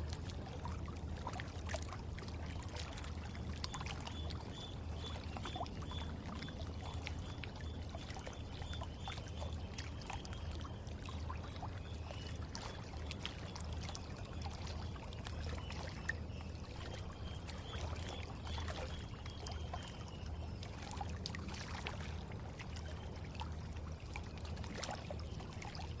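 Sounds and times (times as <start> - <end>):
water drips and splashes: 0.0 - 26.0.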